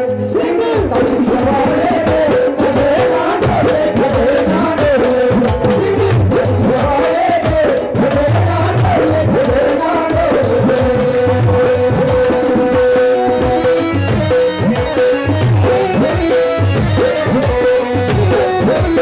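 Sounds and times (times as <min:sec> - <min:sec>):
devotional folk music: 0:00.0 - 0:19.0
tabla drumming: 0:00.0 - 0:19.0.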